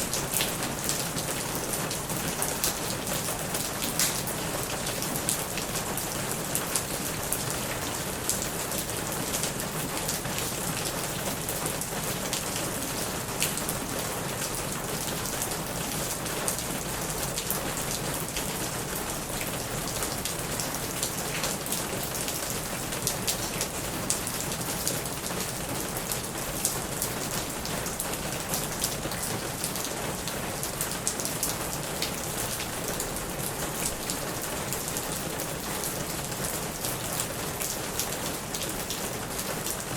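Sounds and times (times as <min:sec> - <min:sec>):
heavy rain on plastic roof: 0:00.0 - 0:39.9.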